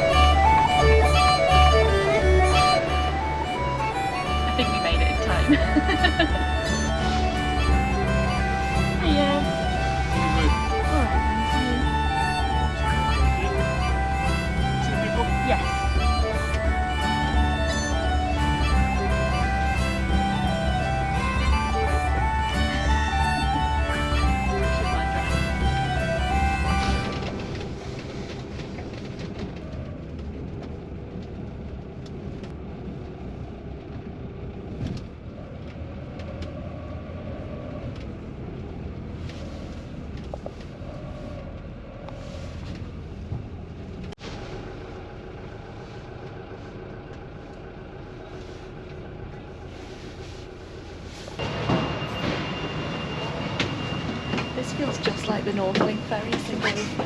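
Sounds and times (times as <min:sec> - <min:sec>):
low mechanical rumble: 0:00.0 - 0:57.0.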